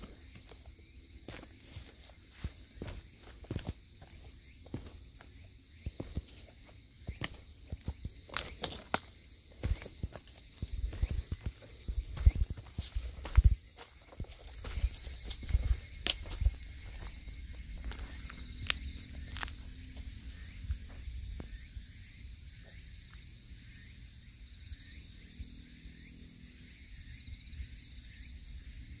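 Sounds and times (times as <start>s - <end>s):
footsteps on woodland path: 0.0s - 23.2s
high insect hum: 0.0s - 29.0s.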